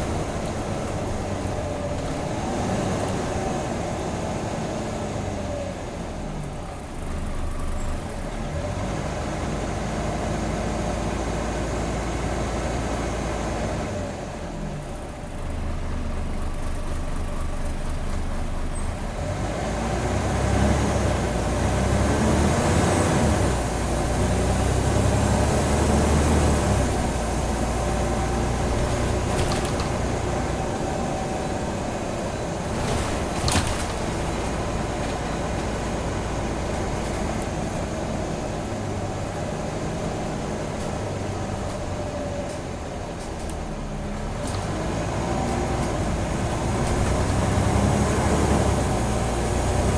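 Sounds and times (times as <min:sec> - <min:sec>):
bus engine changing gears: 0:00.0 - 0:49.9.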